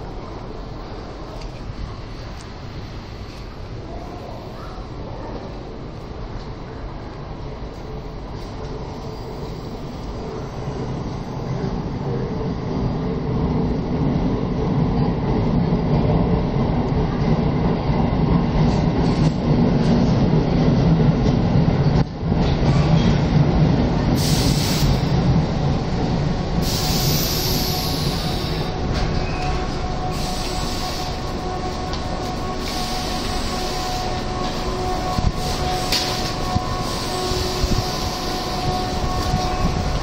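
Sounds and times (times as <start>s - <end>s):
electric train rumbling: 0.0s - 40.0s.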